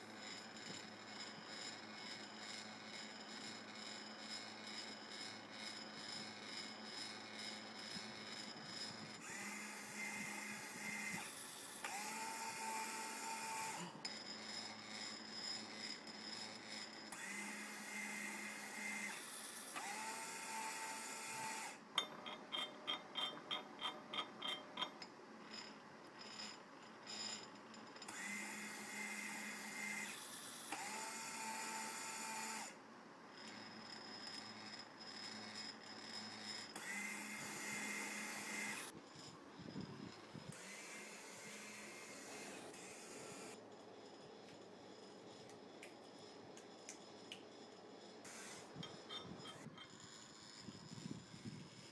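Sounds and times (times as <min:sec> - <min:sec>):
small electric motors whining: 0:00.0 - 0:51.9.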